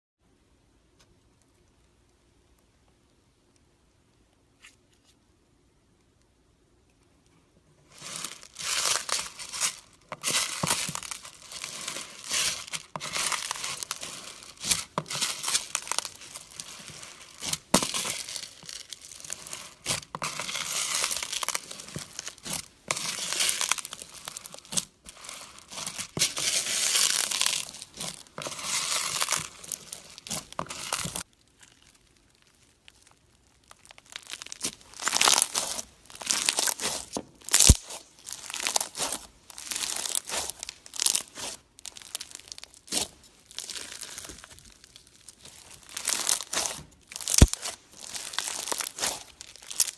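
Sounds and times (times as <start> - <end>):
crunchy slime crackling: 7.8 - 49.9.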